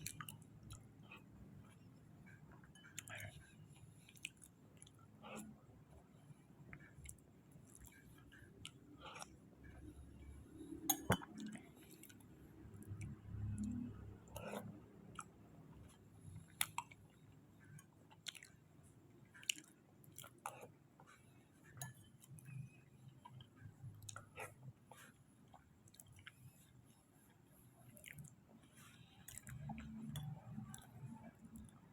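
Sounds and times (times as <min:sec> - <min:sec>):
close chewing with mouth sounds: 0:00.0 - 0:31.9.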